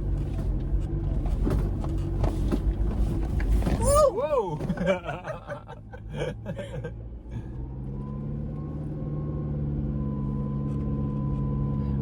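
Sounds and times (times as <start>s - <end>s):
engine heard from cabin: 0.0s - 12.0s.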